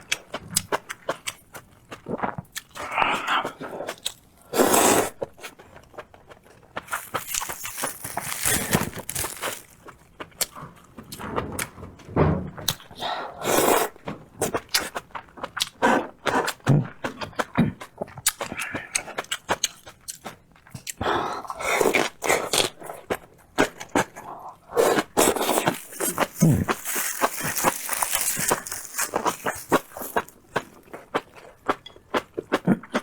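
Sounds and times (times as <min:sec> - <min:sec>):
person chewing: 0:00.0 - 0:11.3, 0:14.5 - 0:33.0.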